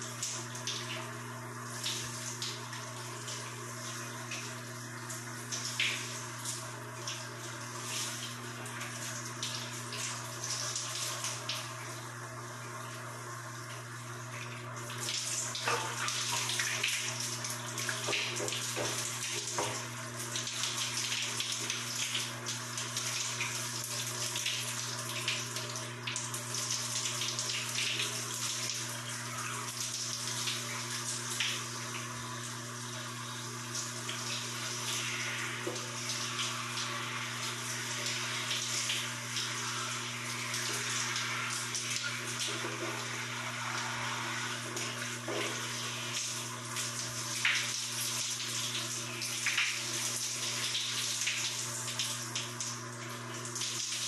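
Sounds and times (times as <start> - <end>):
shower water spraying: 0.0 - 11.9, 14.8 - 32.8, 33.4 - 54.0.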